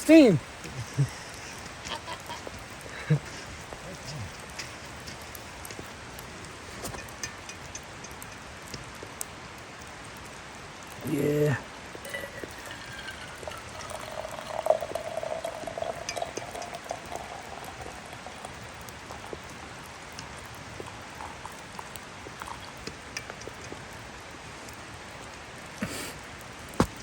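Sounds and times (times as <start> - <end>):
coffee pouring and bubbling: 0.1 - 27.0
small drips and pops: 0.1 - 27.0.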